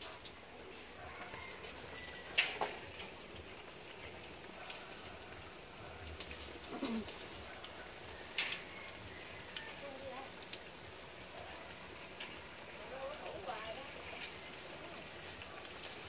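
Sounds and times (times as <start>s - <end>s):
fritters sizzling in oil: 0.0s - 16.0s.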